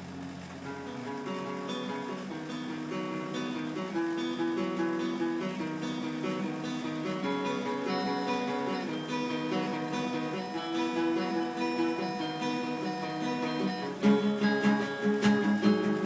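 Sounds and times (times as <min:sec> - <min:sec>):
acoustic guitar chords: 0:00.0 - 0:16.0
hard guitar strumming: 0:00.0 - 0:16.0.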